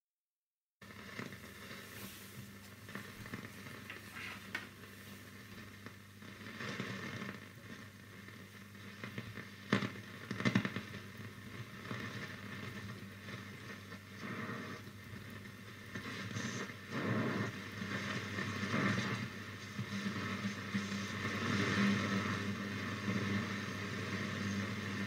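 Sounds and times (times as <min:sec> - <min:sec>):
radio static crackling and hiss: 0:00.8 - 0:25.0.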